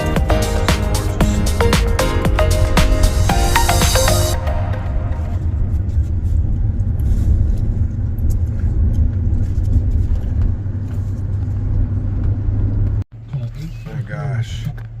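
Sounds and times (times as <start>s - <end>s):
vehicle road and engine rumble: 0.0s - 15.0s.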